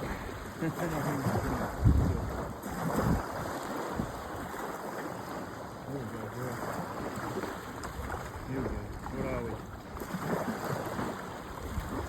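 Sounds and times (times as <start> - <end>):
water washing against shore: 0.0 - 12.0
wind buffeting microphone: 0.0 - 12.0.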